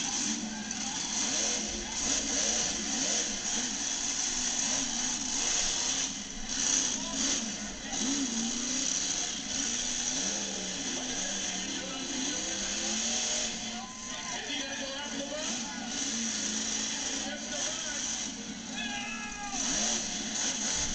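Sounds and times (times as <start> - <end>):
crowd chatter: 0.0 - 20.9
monster truck engine running: 0.0 - 20.9.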